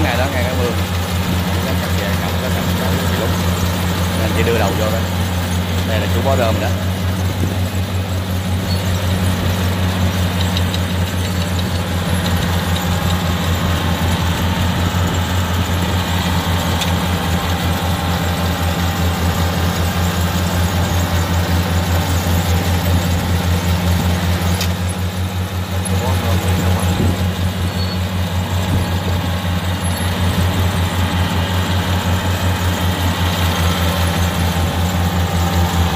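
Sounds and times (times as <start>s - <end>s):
combine harvester engine drone: 0.0s - 35.9s.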